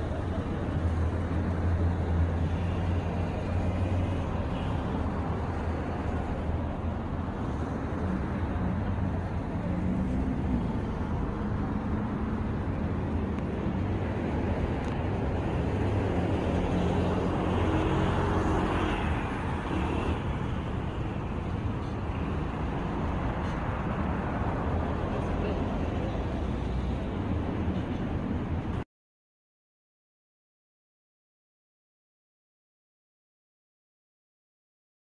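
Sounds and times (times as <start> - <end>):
city traffic rumble: 0.0 - 28.9.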